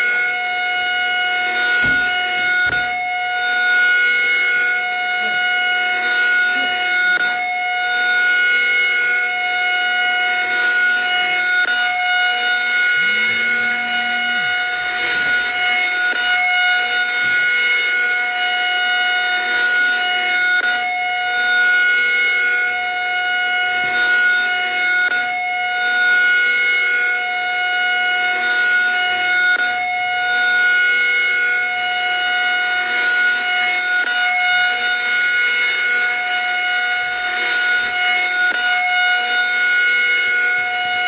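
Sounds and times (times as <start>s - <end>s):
tornado warning siren: 0.0s - 41.0s.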